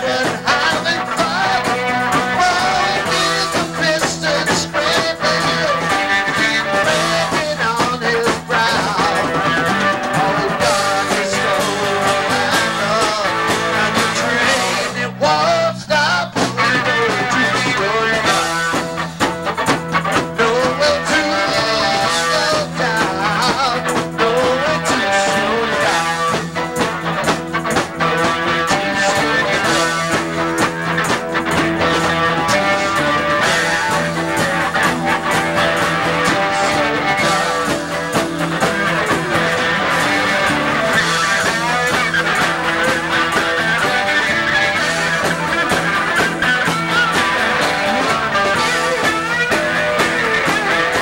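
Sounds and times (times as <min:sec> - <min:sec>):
bass guitar: 0:00.0 - 0:51.0
electric guitar: 0:00.0 - 0:51.0
steady drum beat: 0:00.0 - 0:51.0.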